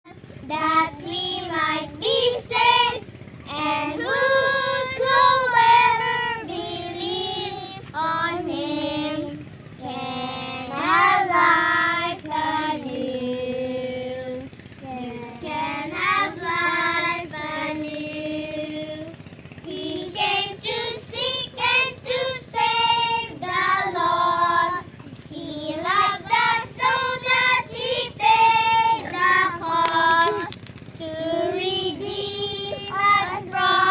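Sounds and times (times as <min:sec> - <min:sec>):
child singing: 0:00.4 - 0:33.9.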